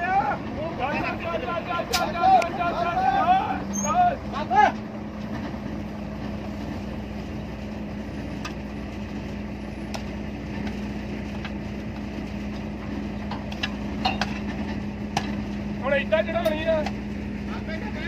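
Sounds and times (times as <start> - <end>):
diesel engines idling: 0.0 - 18.0.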